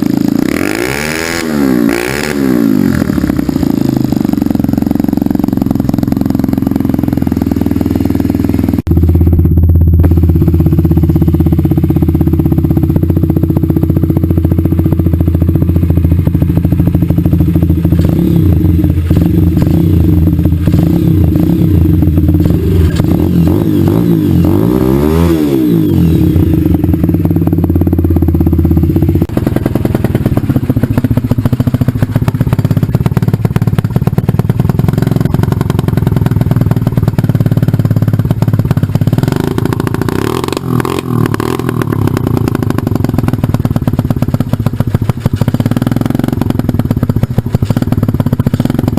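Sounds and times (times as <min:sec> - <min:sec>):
minibike engine running: 0:00.0 - 0:48.9.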